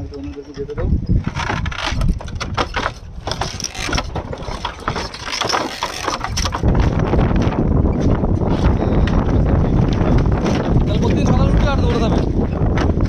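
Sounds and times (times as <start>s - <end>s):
bamboo slats creaking under footsteps: 0.0s - 13.0s
wind buffeting microphone: 0.0s - 13.0s.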